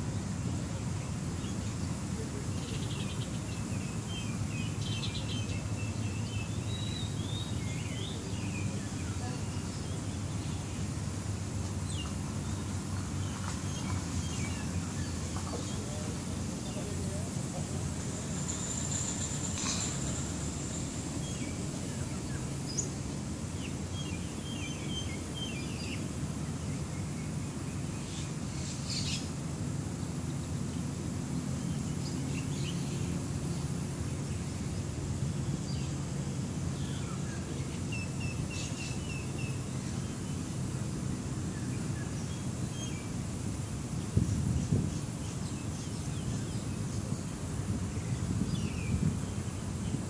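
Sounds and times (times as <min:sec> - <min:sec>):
birds chirping: 0:00.1 - 0:29.3, 0:31.6 - 0:43.1.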